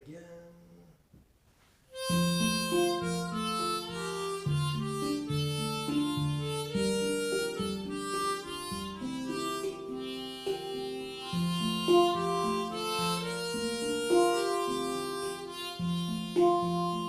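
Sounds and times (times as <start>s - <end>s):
harmonica melody: 1.9s - 17.0s
plucked guitar: 2.0s - 17.0s.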